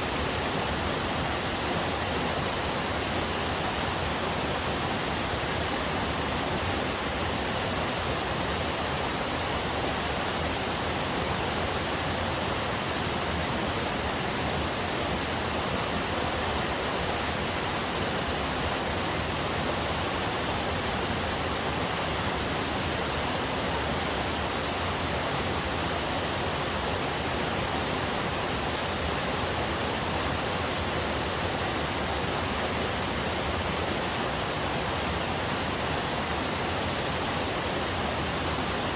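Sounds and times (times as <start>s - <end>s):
waterfall and rushing river: 0.0s - 38.9s.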